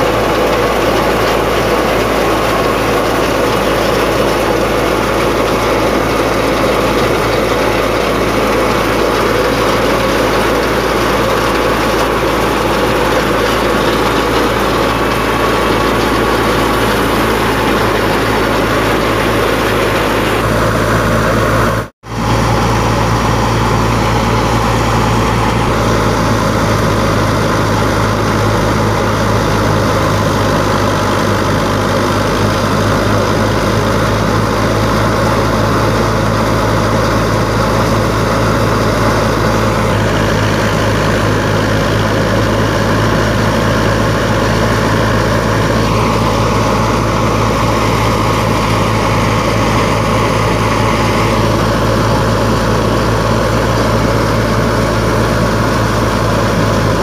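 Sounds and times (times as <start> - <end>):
thresher drum and fan whirring: 0.0 - 57.0
tractor diesel engine running: 0.0 - 57.0.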